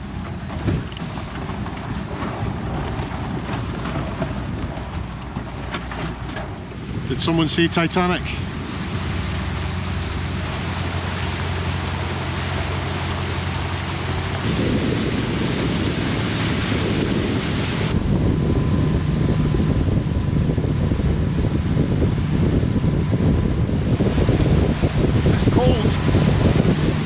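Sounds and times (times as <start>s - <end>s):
boat engine droning: 0.0s - 27.0s
water rushing past hull: 0.0s - 27.0s
wind buffeting microphone: 0.0s - 27.0s.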